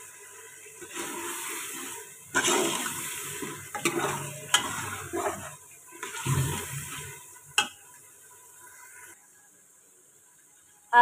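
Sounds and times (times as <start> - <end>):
ladle stirring frying masala: 0.0 - 9.2.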